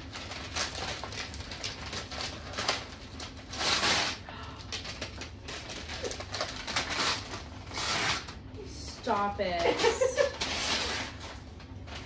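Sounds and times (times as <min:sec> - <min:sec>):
wrapping paper tearing and rustling: 0:00.0 - 0:12.0.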